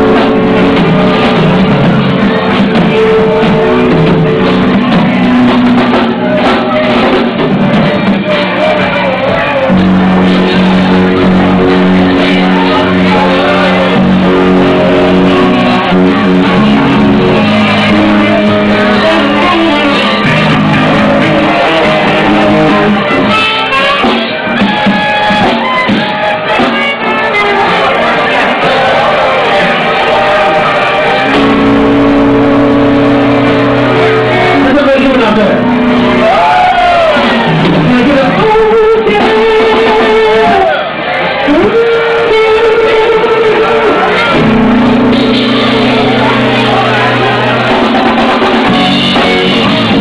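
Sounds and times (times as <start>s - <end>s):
person singing: 0.0s - 24.1s, 26.6s - 50.0s
live band playing: 0.0s - 50.0s.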